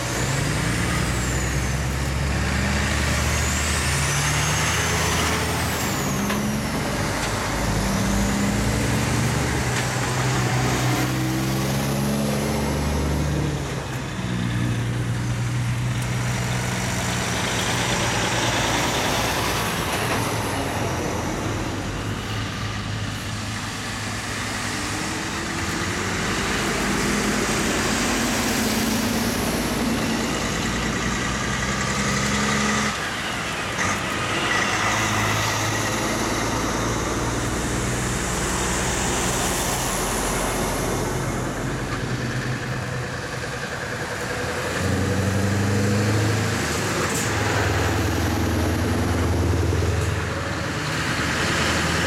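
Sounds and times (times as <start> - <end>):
heavy diesel trucks driving past: 0.0 - 52.0.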